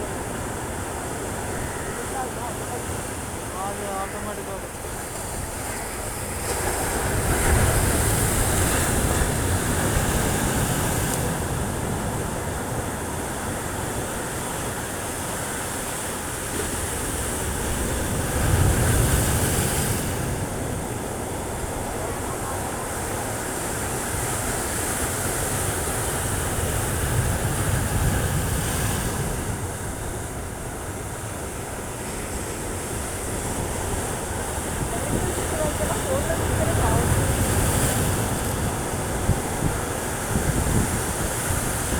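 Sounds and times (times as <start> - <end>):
waves on rocky shore: 0.0 - 41.9.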